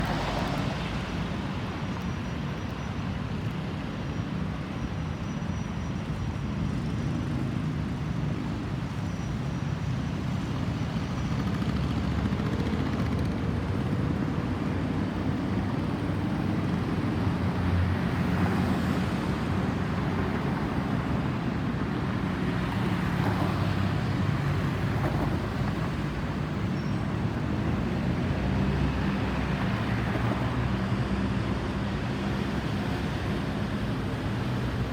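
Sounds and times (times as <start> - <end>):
road traffic rumble: 6.0 - 34.9.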